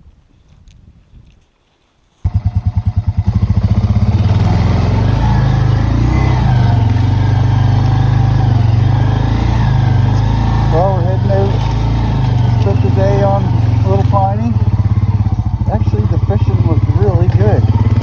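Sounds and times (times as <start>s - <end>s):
vehicle engine droning: 2.2s - 18.0s.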